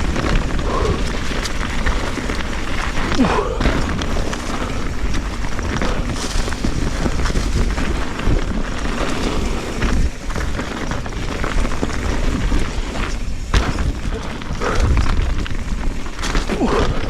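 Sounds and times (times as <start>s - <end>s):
bike rattling over rocks: 0.0s - 17.0s
wind buffeting microphone: 0.0s - 17.0s.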